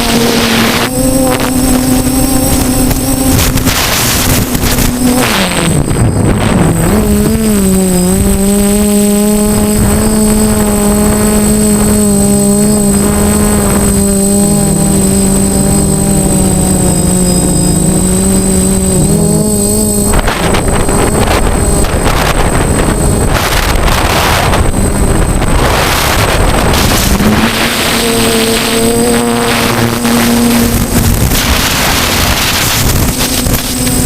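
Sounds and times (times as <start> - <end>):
quadcopter motors humming: 0.0 - 34.0.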